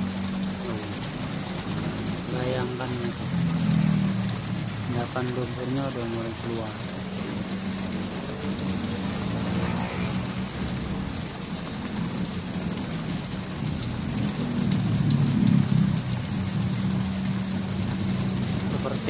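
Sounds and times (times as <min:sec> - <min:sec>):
low engine-like hum: 0:00.0 - 0:19.0
water gushing and splashing: 0:00.0 - 0:19.0.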